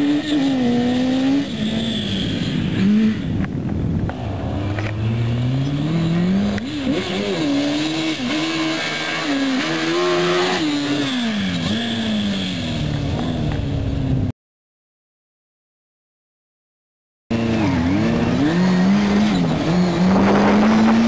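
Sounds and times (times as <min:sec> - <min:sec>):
motorcycle engine revving: 0:00.0 - 0:14.3, 0:17.3 - 0:21.0.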